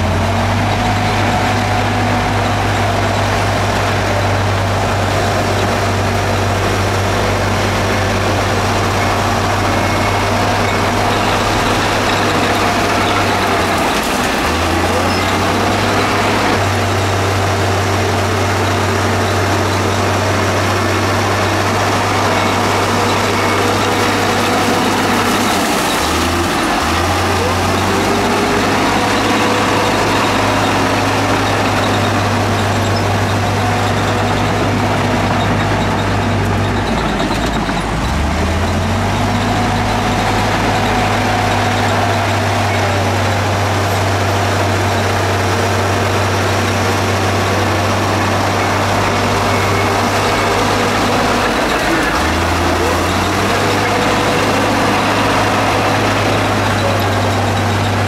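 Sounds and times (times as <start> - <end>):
construction machine engine running: 0.0 - 58.0.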